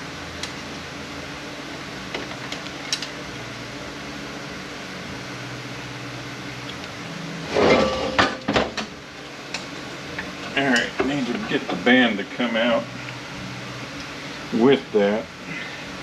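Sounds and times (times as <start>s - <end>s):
steady shop hum: 0.0s - 16.0s.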